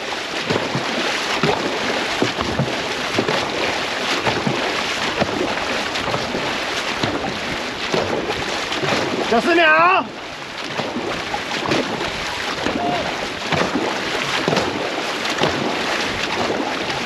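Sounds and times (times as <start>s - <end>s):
wind on microphone: 0.0s - 9.4s, 10.8s - 17.0s
paddles splashing in water: 0.0s - 17.0s
water rushing: 0.0s - 17.0s.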